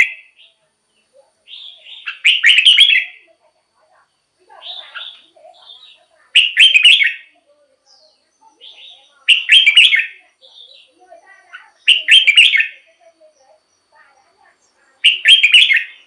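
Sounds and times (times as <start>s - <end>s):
bird singing phrases: 0.0s - 16.0s
soft bird chirps: 0.0s - 16.0s.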